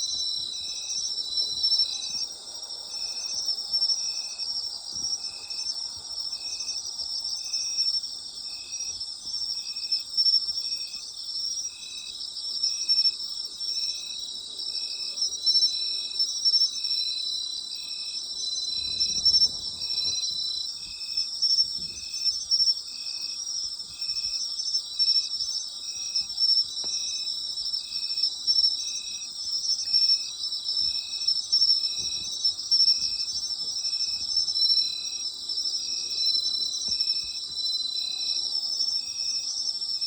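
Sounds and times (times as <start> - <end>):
insect chirping rhythmically: 0.0 - 40.0
insects trilling: 0.0 - 40.0.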